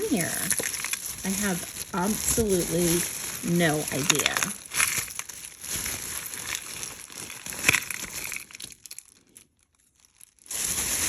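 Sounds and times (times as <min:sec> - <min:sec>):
bag crinkling and rustling: 0:00.0 - 0:11.0.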